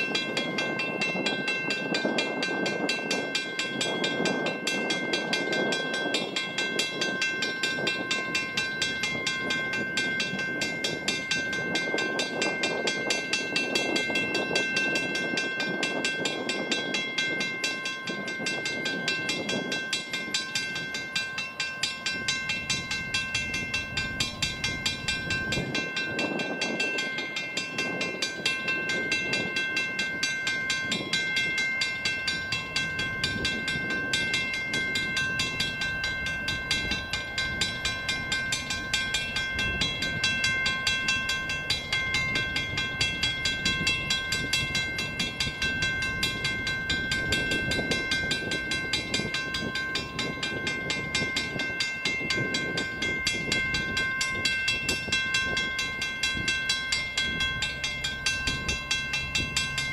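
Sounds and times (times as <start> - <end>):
level-crossing bell ringing: 0.0 - 59.9.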